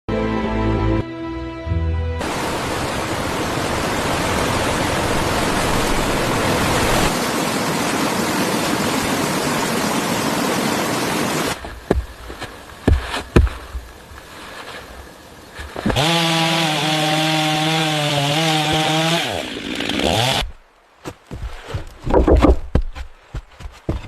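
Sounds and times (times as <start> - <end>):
stream rushing: 2.2 - 24.0.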